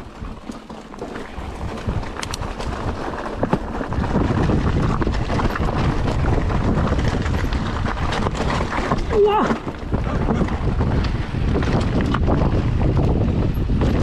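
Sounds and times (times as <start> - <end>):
bike rattling over ground: 0.0 - 14.0
wind buffeting microphone: 0.0 - 14.0.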